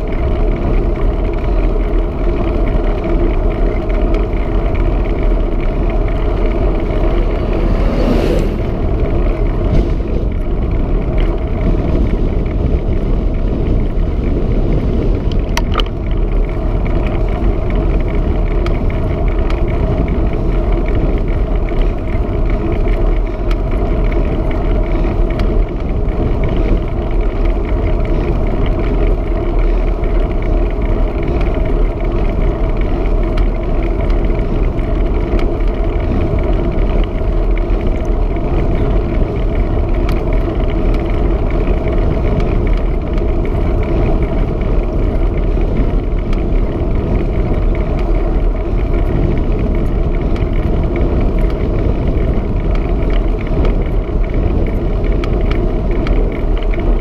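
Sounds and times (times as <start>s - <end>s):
bicycle tyres rolling on tarmac: 0.0s - 57.0s
wind buffeting microphone: 0.0s - 57.0s.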